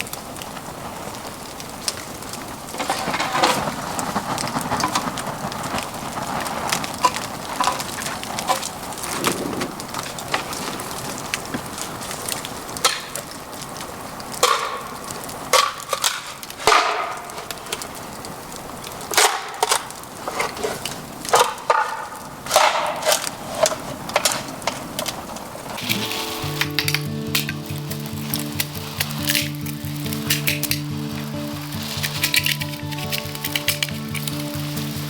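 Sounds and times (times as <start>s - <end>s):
bamboo crackling and snapping: 0.0s - 35.0s
steady hiss: 0.0s - 35.0s.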